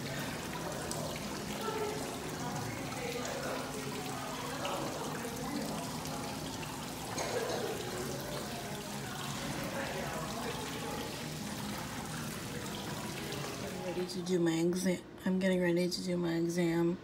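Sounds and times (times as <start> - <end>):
water trickling and splashing: 0.0 - 14.3.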